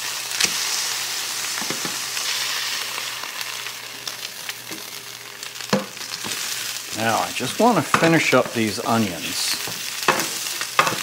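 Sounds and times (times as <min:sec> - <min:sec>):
meat and onions sizzling: 0:00.0 - 0:11.0.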